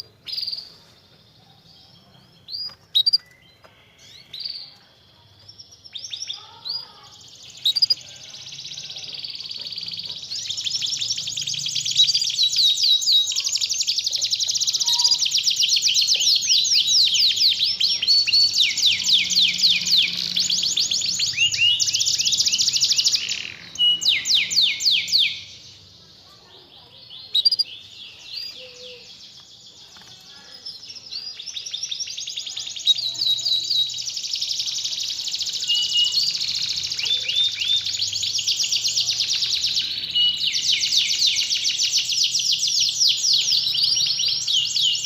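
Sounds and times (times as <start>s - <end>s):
canary singing: 0.0s - 45.0s.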